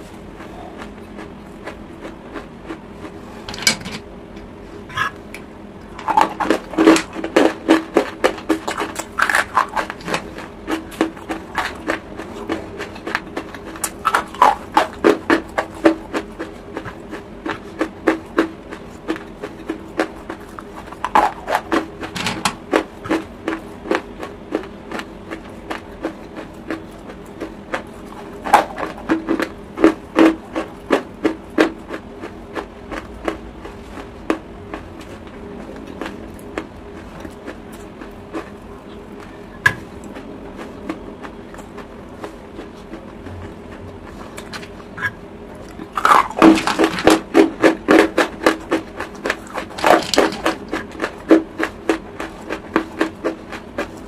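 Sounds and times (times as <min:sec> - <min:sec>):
chewing and crunching chalk: 0:00.1 - 0:03.3, 0:04.9 - 0:54.0.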